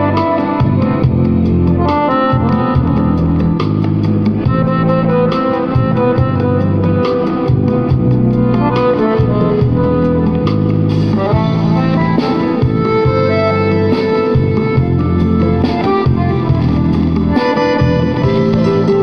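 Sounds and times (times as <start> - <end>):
accordion melody: 0.0 - 19.0
instrumental backing with bass: 0.0 - 19.0.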